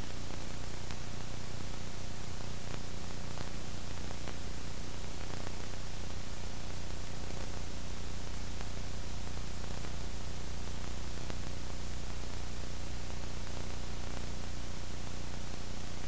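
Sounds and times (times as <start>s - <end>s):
low electrical hum: 0.0s - 16.0s
steady hiss: 0.0s - 16.0s.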